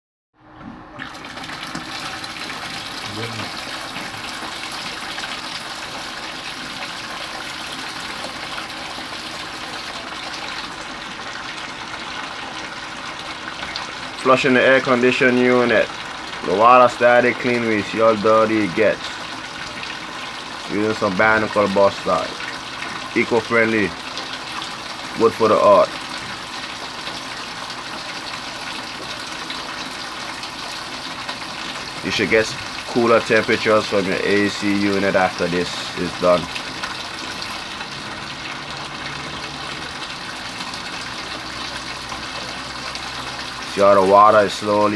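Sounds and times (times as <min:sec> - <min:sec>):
water gushing: 0:00.7 - 0:44.9.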